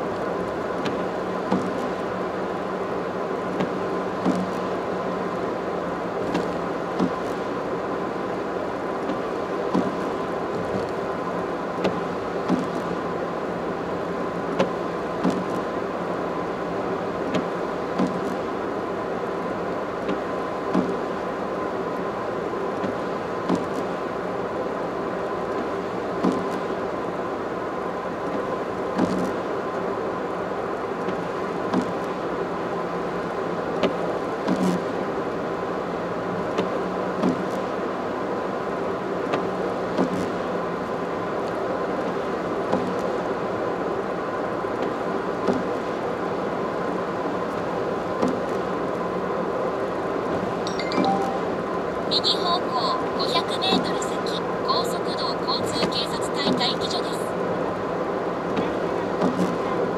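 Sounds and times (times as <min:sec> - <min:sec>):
road and tyre noise: 0:00.0 - 0:50.7, 0:51.3 - 0:59.9.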